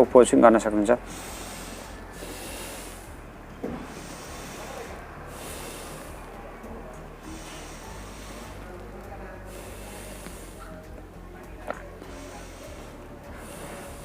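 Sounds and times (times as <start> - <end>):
steady low hum: 0.0 - 14.0
person breathing through nose: 1.0 - 11.0, 12.0 - 14.0.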